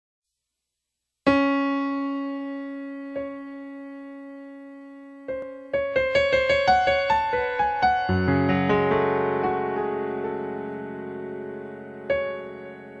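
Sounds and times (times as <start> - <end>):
piano music: 1.3 - 13.0.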